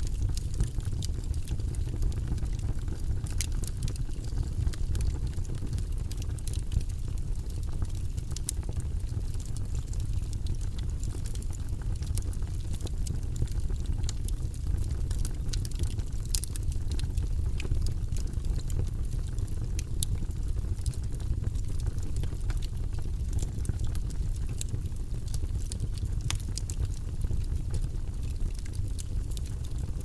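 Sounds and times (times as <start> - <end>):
fireplace flames roaring: 0.0 - 30.0
wood crackling and popping: 0.0 - 30.0.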